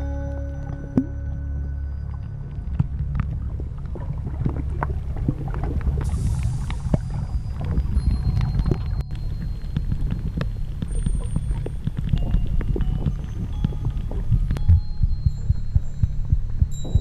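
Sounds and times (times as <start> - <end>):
underwater rumble: 0.0 - 17.0.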